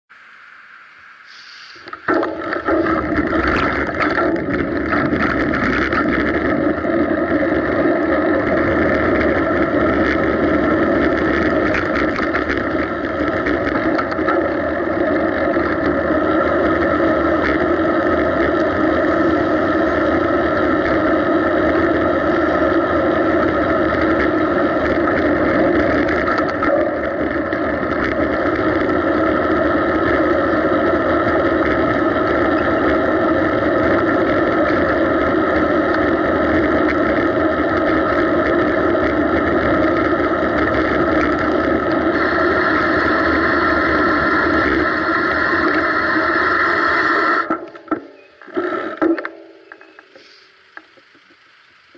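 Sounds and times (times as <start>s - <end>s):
road traffic: 0.1s - 51.9s
wind: 0.1s - 51.9s.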